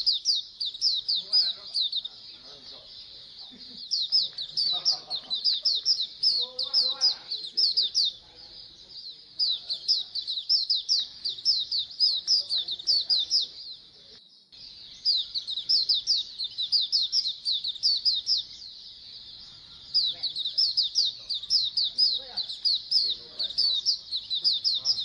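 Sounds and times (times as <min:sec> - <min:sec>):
flock of birds chirping: 0:00.0 - 0:25.0.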